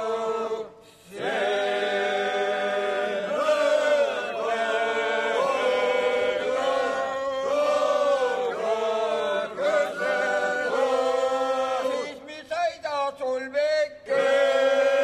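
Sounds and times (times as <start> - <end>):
unaccompanied voices chanting: 0.0 - 12.3, 14.0 - 15.0.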